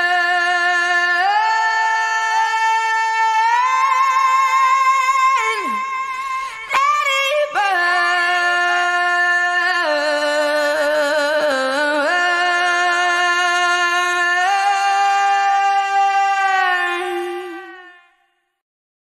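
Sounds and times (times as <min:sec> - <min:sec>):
woman singing wordless notes: 0:00.0 - 0:18.2.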